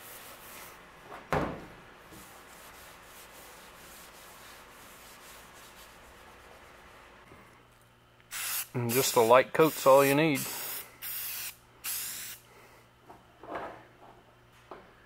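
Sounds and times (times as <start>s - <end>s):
low steady shop noise: 0.0s - 15.0s.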